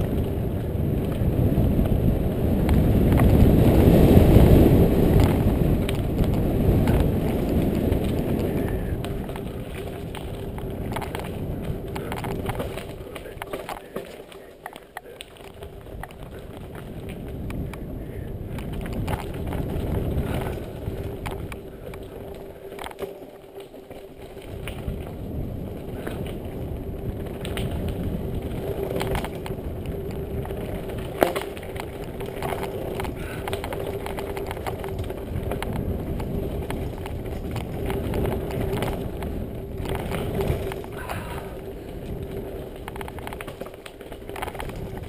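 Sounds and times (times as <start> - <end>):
bike rattling over bumps: 0.0 - 45.0
tyres rumbling over dirt: 0.0 - 45.0.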